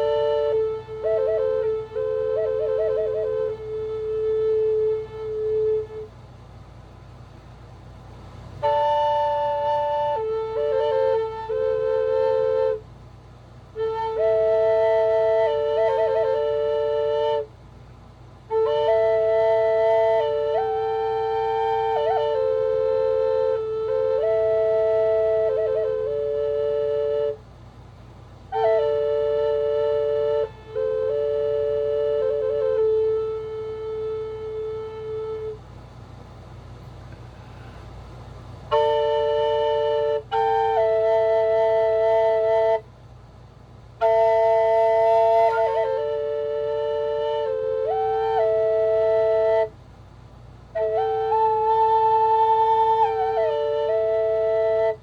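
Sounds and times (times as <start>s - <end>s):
slow flute music: 0.0s - 7.2s, 8.4s - 55.0s
faint hiss: 0.0s - 55.0s.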